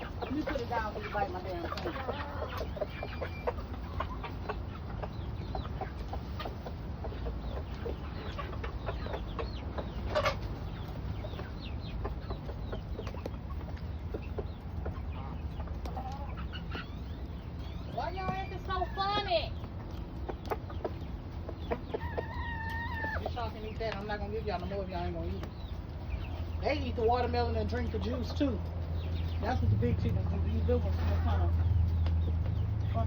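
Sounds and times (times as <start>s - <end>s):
chickens clucking and peeping: 0.0s - 33.0s.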